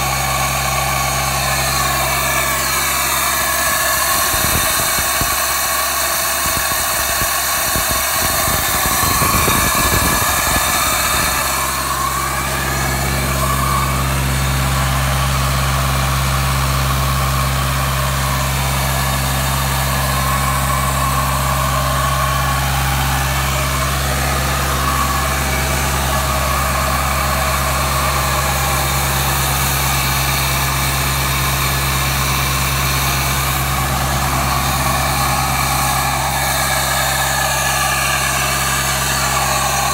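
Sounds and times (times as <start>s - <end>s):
air compressor engine running: 0.0s - 39.9s.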